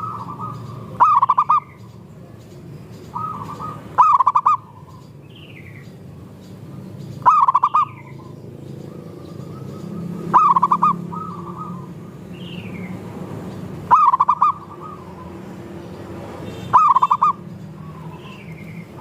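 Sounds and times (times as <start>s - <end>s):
doves cooing: 0.0s - 2.0s, 3.1s - 5.2s, 7.2s - 19.0s.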